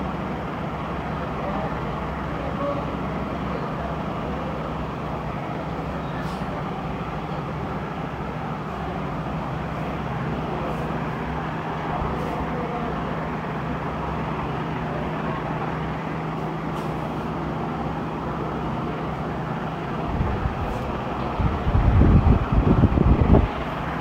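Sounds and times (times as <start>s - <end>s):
air conditioner hum: 0.0s - 24.0s
air conditioner rushing noise: 0.0s - 24.0s.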